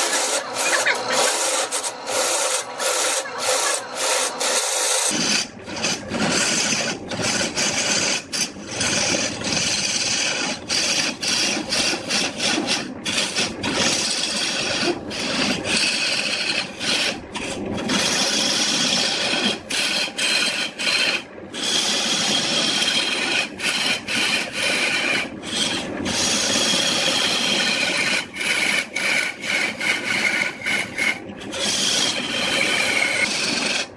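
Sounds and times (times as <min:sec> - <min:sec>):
lathe tool cutting wood: 0:00.0 - 0:33.9.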